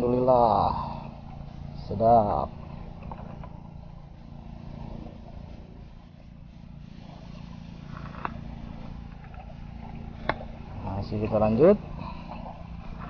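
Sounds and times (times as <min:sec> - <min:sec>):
low motor drone: 0:00.0 - 0:13.0.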